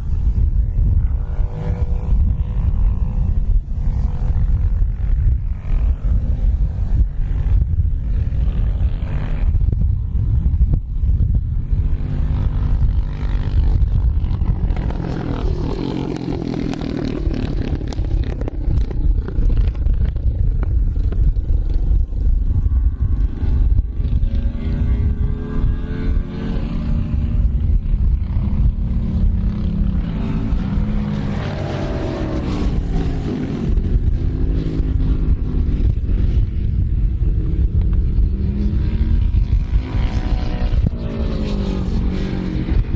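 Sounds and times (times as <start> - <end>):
motorcycle engine running loudly: 0.0 - 42.9.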